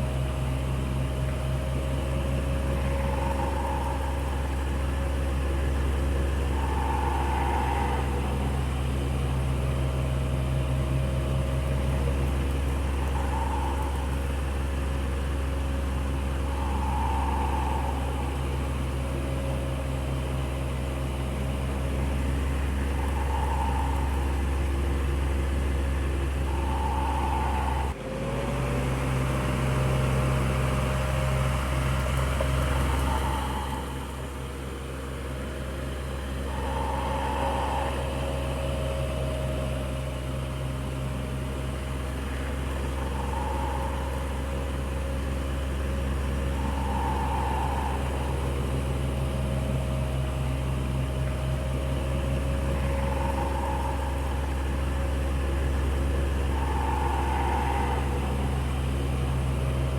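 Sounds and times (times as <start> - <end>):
electric fan running: 0.0 - 28.0, 28.6 - 59.9.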